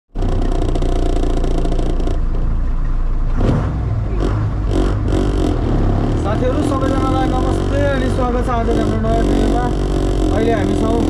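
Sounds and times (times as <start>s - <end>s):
truck engine running: 0.1s - 11.0s.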